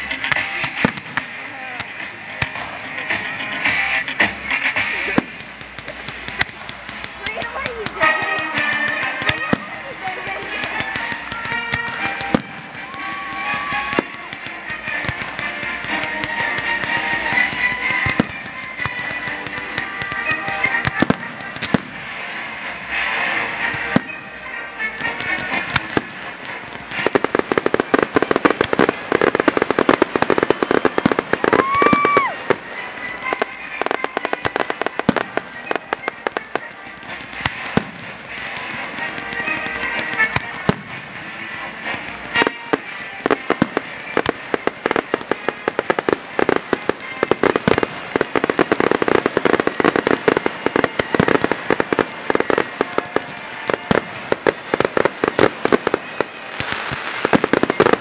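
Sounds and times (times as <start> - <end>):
firework shell bursts and crackle: 0.0 - 58.0
high firework whistle: 0.0 - 58.0.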